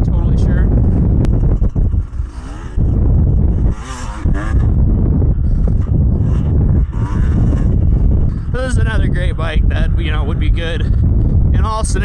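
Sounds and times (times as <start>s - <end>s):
dirt bike engine revving: 0.0s - 12.0s
wind rumble on microphone: 0.0s - 12.0s.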